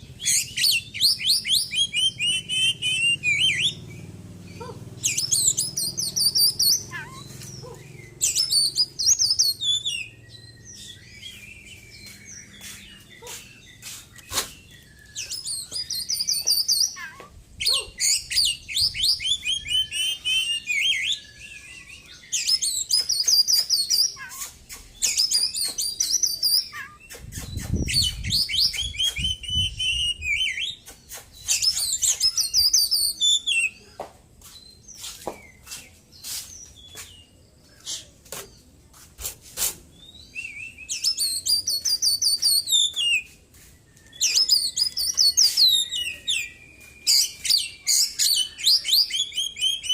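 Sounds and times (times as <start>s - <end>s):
songbird singing rapid phrases: 0.0s - 49.9s.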